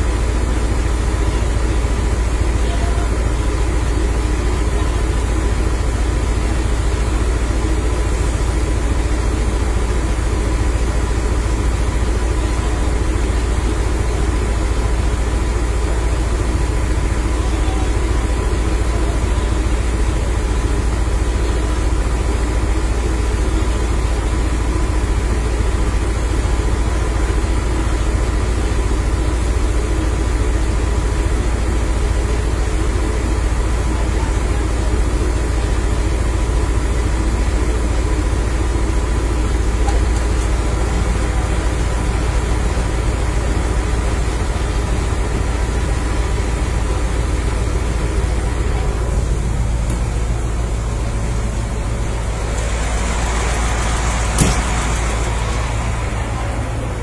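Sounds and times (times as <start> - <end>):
truck engine rumbling: 0.0 - 57.0.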